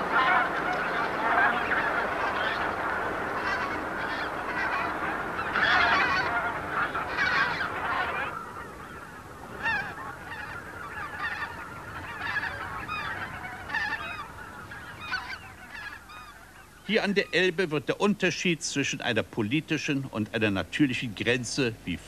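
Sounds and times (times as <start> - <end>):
geese calling: 0.0 - 22.0.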